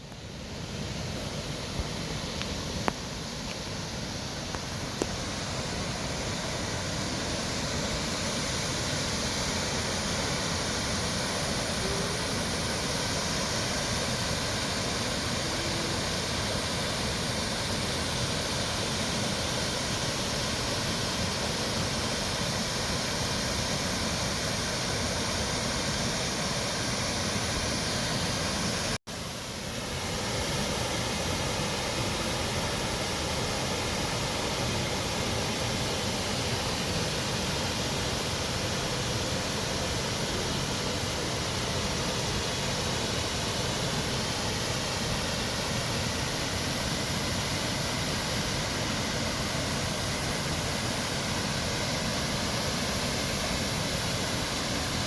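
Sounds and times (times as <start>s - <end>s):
waterfall rushing: 0.3s - 55.0s.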